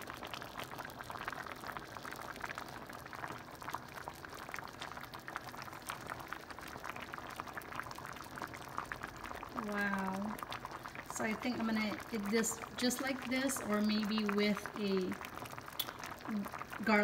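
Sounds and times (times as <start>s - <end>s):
soup bubbling in a pan: 0.0s - 17.0s.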